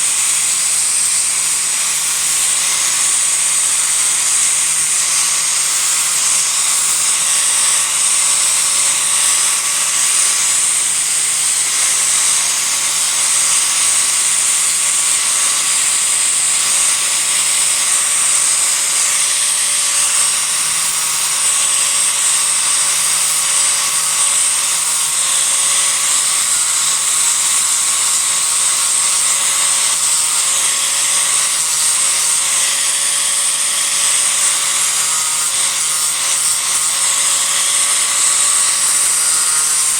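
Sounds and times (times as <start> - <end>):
disc grinder grinding wood: 0.0 - 39.9.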